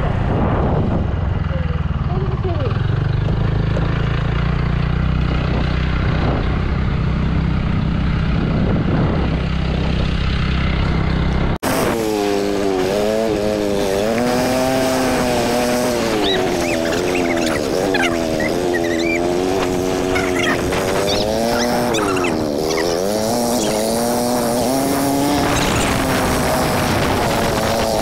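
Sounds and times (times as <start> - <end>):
wind buffeting microphone: 0.0 - 11.6, 13.1 - 28.0
motorcycle engine rumble: 0.0 - 28.0
road noise: 0.0 - 28.0.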